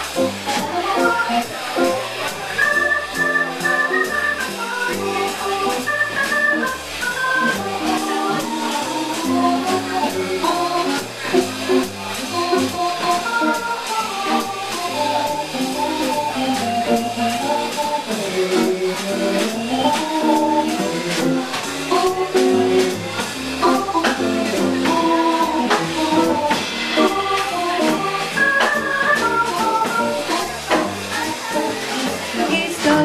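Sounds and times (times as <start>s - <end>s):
drums on cymbals: 0.0s - 33.0s
electric guitar: 0.0s - 33.0s
organ solo: 0.0s - 33.0s
walking bass line: 0.0s - 33.0s.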